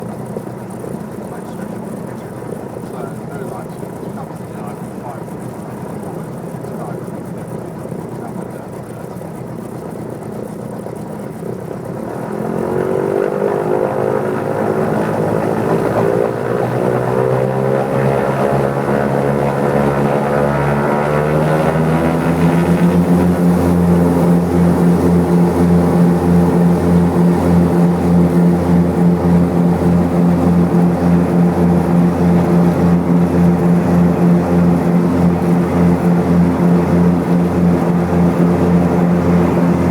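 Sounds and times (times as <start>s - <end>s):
twin propeller aircraft engines: 0.0s - 39.9s.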